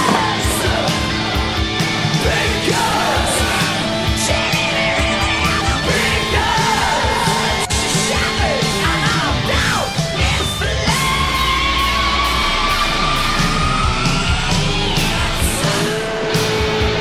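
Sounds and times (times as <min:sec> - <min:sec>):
heavy rock music: 0:00.0 - 0:17.0
yelled vocals: 0:00.0 - 0:17.0.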